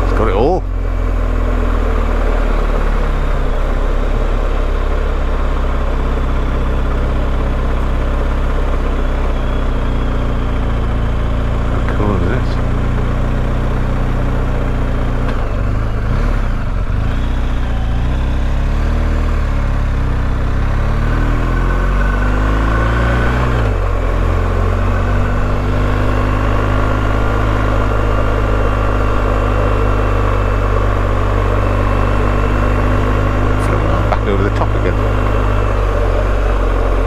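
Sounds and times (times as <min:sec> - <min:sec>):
motorcycle engine running: 0:00.0 - 0:37.0
road and wind noise: 0:00.0 - 0:37.0.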